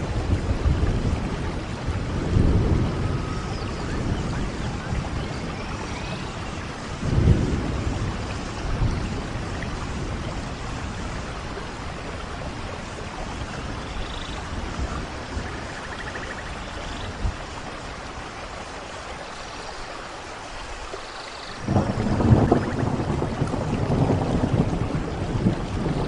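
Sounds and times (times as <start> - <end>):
low rolls of thunder: 0.0 - 18.6, 21.6 - 26.0
steady rain: 0.0 - 26.0.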